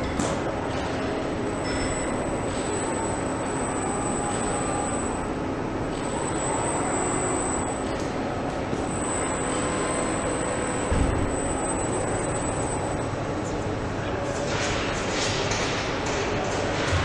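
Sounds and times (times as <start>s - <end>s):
high machine whine: 0.0s - 14.7s
assembly line machine hum: 0.0s - 17.0s.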